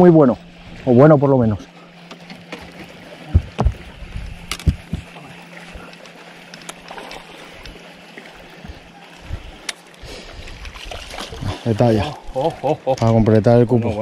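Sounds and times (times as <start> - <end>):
steady low hum: 0.0 - 14.0
water sloshing against boat: 0.0 - 14.0.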